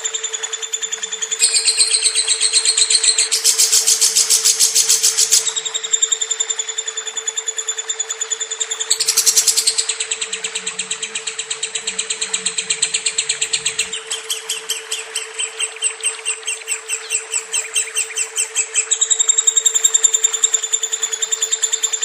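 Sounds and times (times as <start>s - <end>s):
lovebird chattering: 0.0s - 22.0s.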